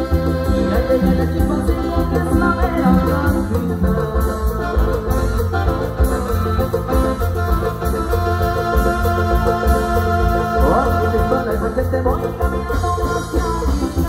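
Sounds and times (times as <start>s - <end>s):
man singing into a microphone: 0.0s - 5.9s, 8.3s - 14.0s
bass: 0.0s - 14.0s
drum kit: 0.0s - 14.0s
electronic organ-like keyboards: 0.0s - 14.0s.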